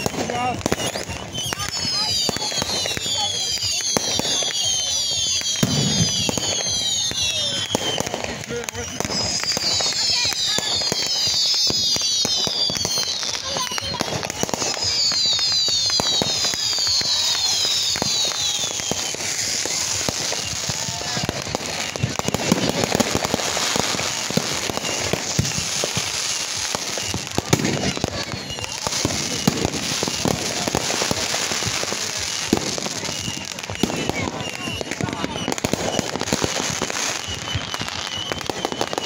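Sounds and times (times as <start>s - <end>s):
falling firework whistles: 0.0s - 39.0s
fireworks bangs and crackling: 0.0s - 39.0s.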